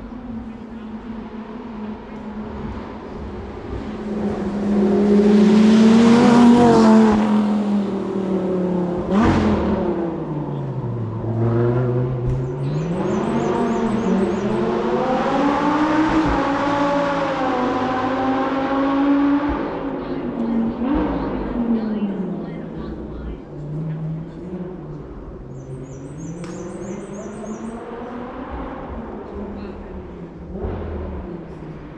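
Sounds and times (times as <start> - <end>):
race car engine accelerating: 0.0 - 31.9.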